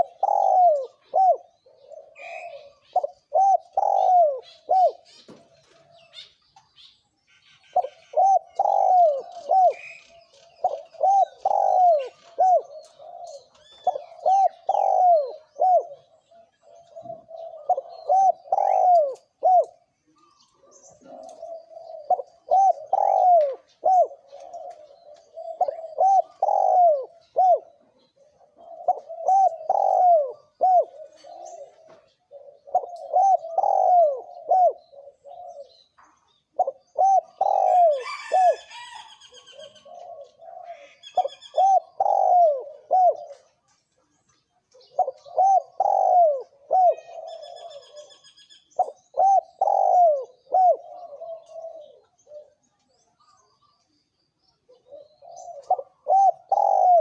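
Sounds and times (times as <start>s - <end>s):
dove cooing: 0.0s - 6.4s, 7.6s - 53.9s, 54.5s - 57.0s
small birds chirping: 0.0s - 57.0s.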